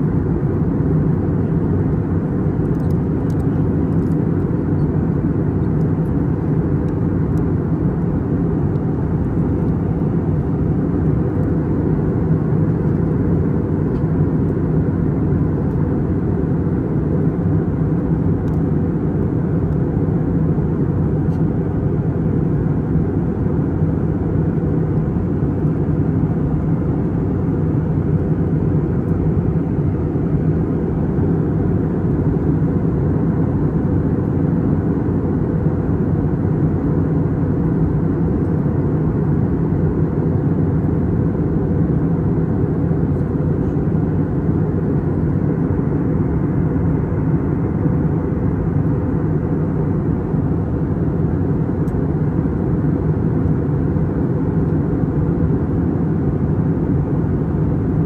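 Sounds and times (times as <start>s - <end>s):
aircraft cabin engine drone: 0.0s - 58.0s.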